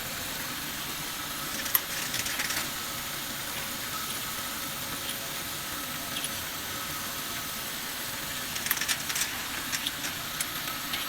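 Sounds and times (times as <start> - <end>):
machine running with hiss and hum: 0.0 - 11.0.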